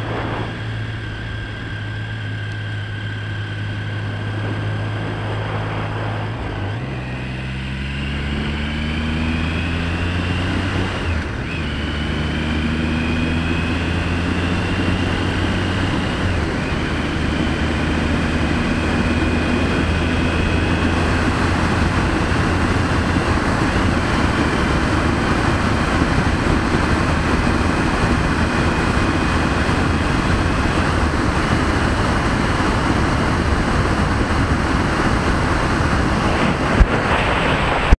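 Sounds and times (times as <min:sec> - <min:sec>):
motorcycle engine accelerating: 0:00.0 - 0:37.9
rushing wind: 0:00.0 - 0:37.9.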